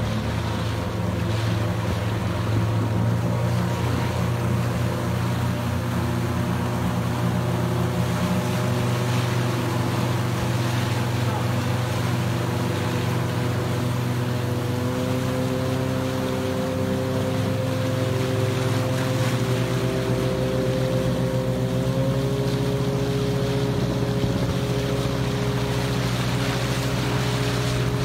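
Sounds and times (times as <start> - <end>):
outboard motor running: 0.0 - 28.0
water splashing against boat: 0.0 - 28.0.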